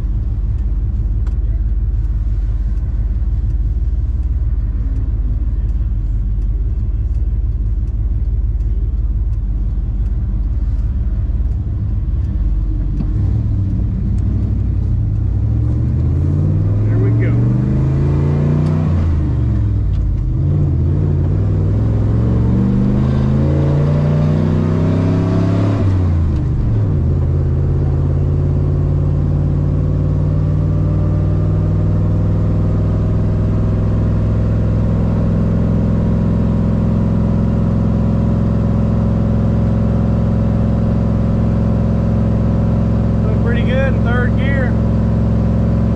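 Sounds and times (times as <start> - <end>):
road noise: 0.0 - 45.9
truck engine accelerating: 0.0 - 45.9.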